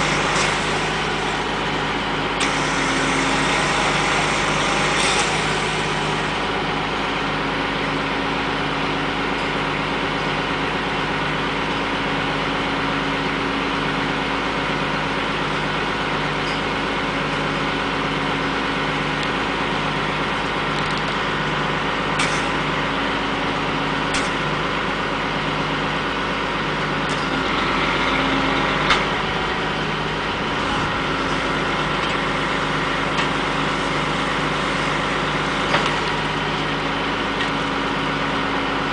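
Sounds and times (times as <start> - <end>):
heavy machine engine running: 0.0 - 38.9.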